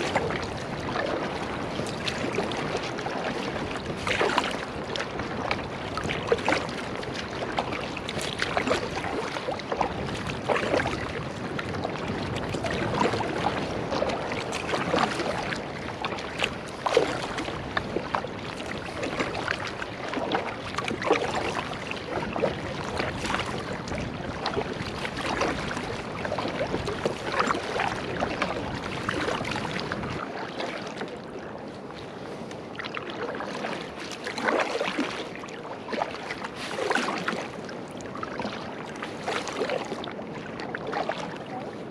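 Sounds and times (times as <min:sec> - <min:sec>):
water trickling off paddle blades: 0:00.0 - 0:41.7
paddle dipping and splashing: 0:00.0 - 0:41.9.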